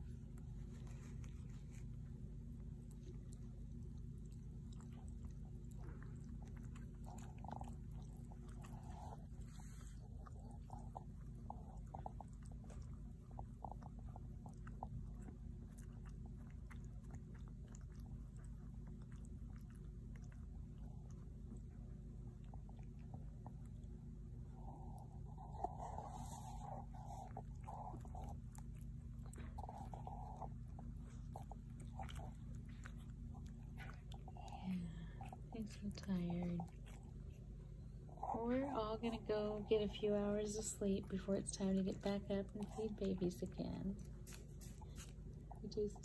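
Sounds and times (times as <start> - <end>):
low hum: 0.0 - 46.0
puppies wet clicking and smacking: 0.0 - 46.0.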